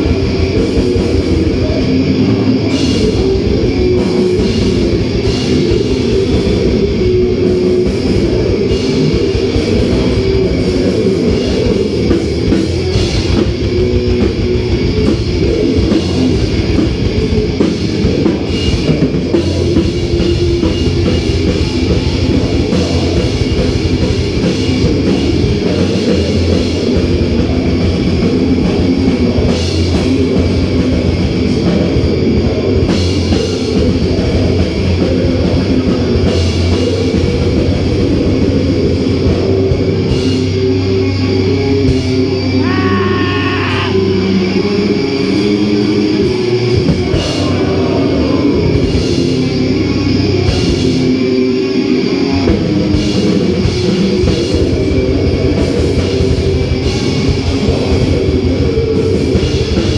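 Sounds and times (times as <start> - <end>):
bass guitar: 0.0 - 59.9
distorted electric guitars: 0.0 - 59.9.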